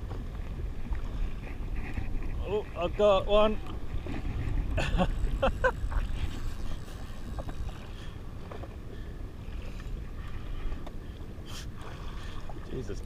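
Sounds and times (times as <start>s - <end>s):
water lapping: 0.0s - 13.0s
wind rumbling on microphone: 0.0s - 13.0s.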